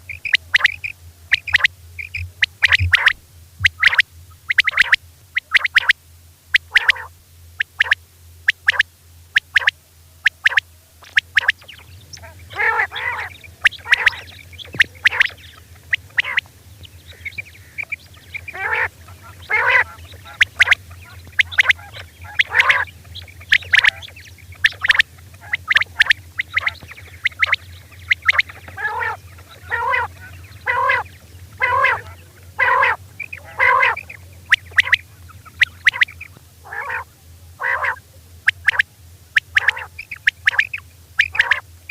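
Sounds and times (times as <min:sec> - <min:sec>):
quail calling: 0:00.0 - 0:41.9
steady low hum: 0:00.0 - 0:41.9.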